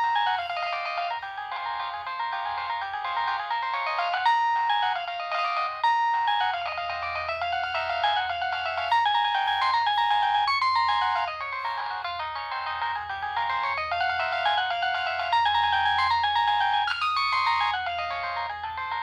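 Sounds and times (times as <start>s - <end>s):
tinny phone ringtone melody: 0.0s - 19.0s.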